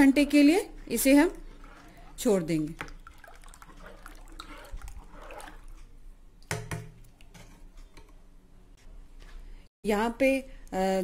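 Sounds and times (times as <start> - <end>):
spoon stirring batter in pot: 0.0 - 9.4.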